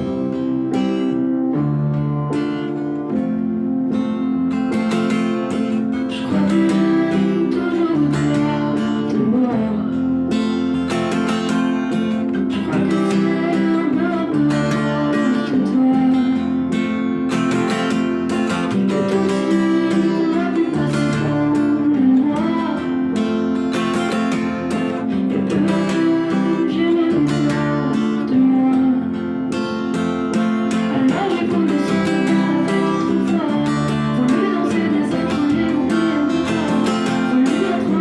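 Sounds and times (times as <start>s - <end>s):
person singing: 0.0s - 38.0s
strummed acoustic guitar chords: 0.0s - 38.0s.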